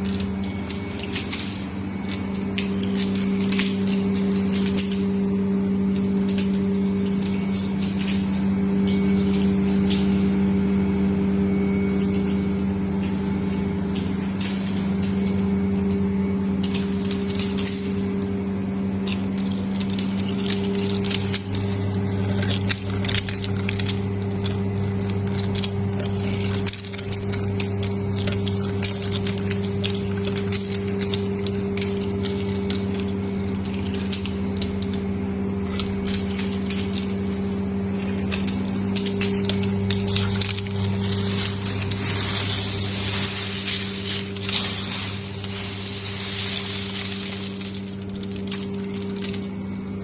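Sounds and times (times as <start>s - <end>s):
ice flakes clicking and crackling: 0.0s - 50.0s
ice machine humming: 0.0s - 50.0s.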